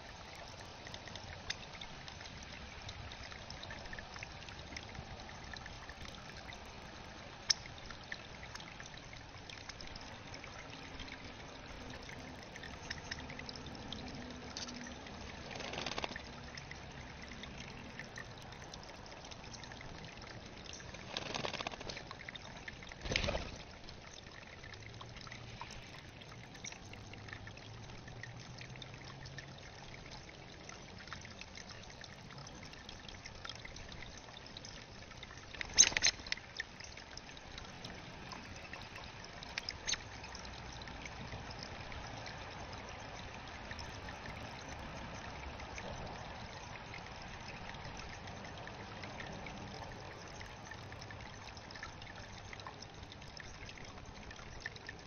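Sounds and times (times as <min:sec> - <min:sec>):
water trickling into pond: 0:00.0 - 0:55.0.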